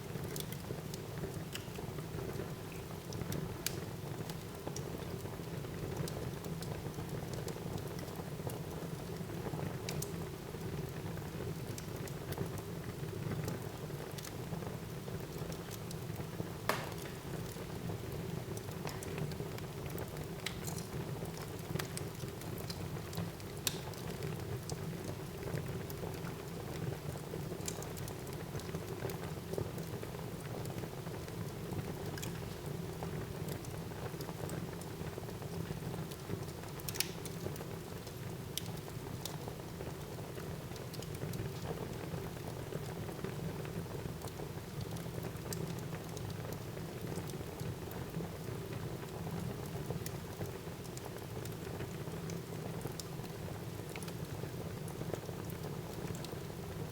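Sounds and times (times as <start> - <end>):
fire crackles and pops: 0.0 - 56.9.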